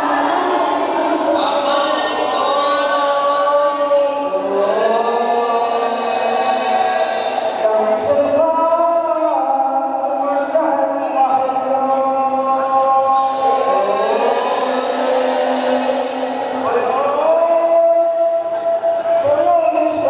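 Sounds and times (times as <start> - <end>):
person chanting a slow melody: 0.0 - 20.0.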